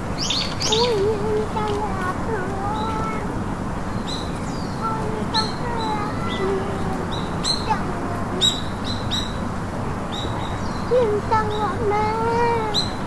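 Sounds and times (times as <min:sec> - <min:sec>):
birds chirping: 0:00.0 - 0:13.0
steady background hiss: 0:00.0 - 0:13.0.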